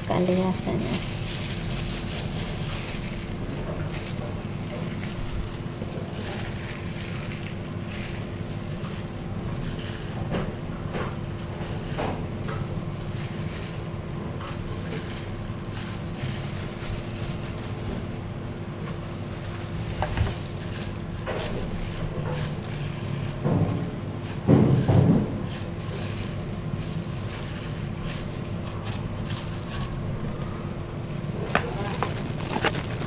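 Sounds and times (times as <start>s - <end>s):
background hum and hiss: 0.0s - 33.0s.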